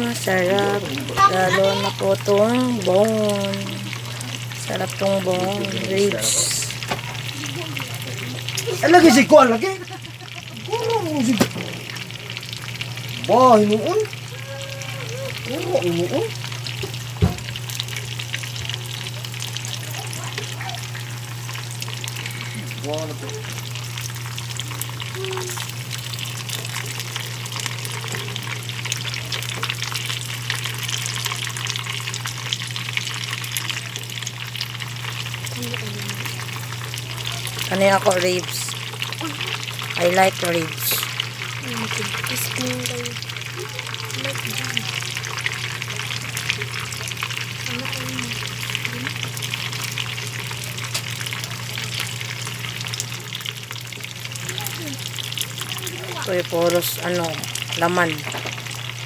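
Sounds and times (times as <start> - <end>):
chicken deep-frying in oil: 0.0 - 59.0
low hum: 0.0 - 59.0.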